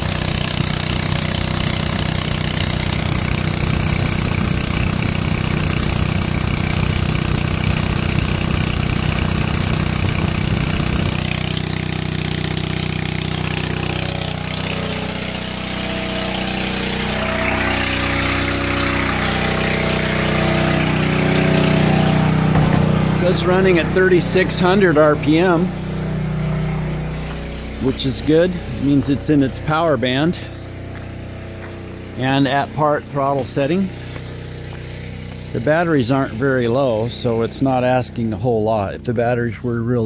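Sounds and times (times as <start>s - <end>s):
small engine running steadily: 0.0s - 40.0s.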